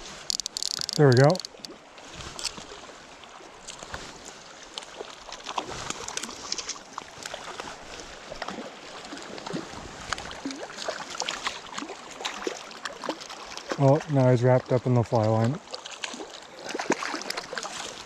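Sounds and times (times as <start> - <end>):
shallow river water running: 0.0 - 18.0
water splashes and gurgles: 0.0 - 18.0.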